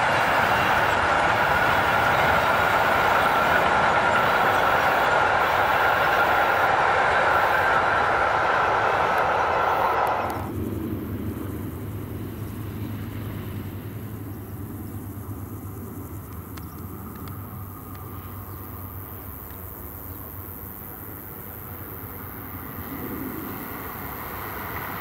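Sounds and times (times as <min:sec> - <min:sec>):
distant train rumble: 0:00.0 - 0:25.0
freight train rushing past: 0:00.0 - 0:25.0.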